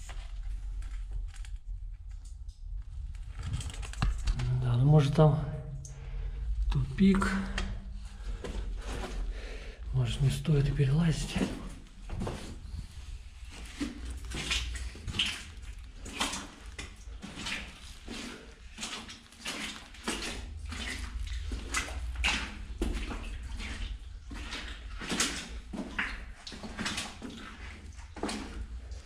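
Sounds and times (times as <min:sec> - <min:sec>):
echoing footsteps in tunnel: 0:04.4 - 0:29.0.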